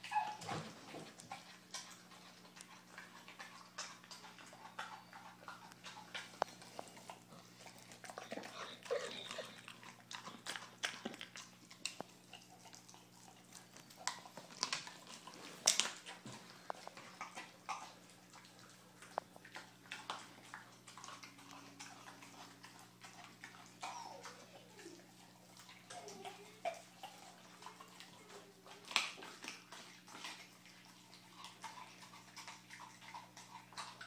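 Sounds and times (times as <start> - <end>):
dog chewing meat and bone: 0.0 - 34.0.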